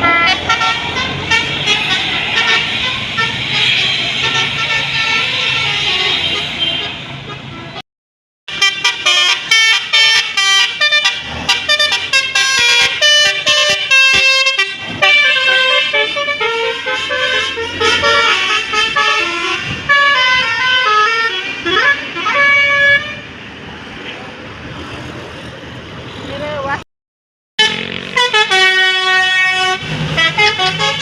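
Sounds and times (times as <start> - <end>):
musical bus air horn melody: 0.0 - 7.8, 8.5 - 23.3, 27.6 - 31.0.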